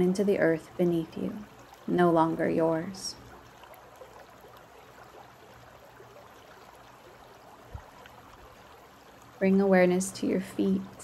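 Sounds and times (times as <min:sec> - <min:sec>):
rocky creek flowing: 0:00.0 - 0:11.0.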